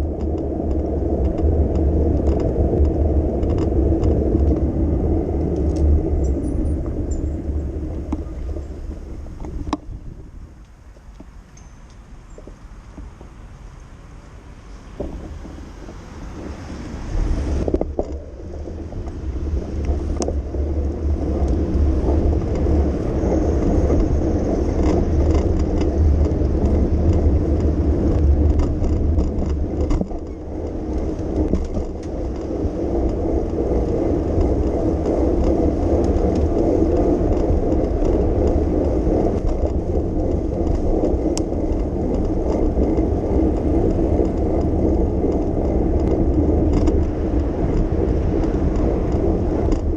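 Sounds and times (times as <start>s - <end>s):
street noise rumble: 0.0s - 49.9s.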